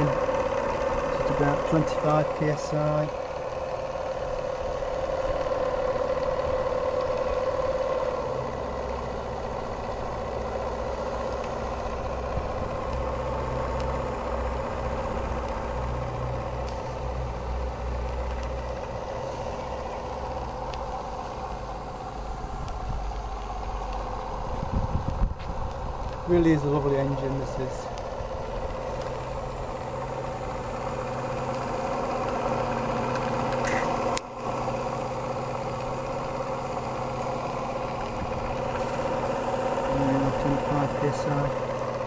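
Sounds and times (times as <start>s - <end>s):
model steam engine running: 0.0s - 42.0s
steam hissing: 0.0s - 42.0s.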